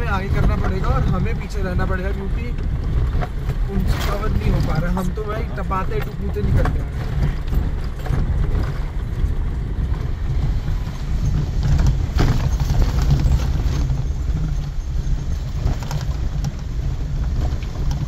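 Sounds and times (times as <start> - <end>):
car road rumble: 0.0 - 18.0
knocks and rattles: 0.0 - 18.0.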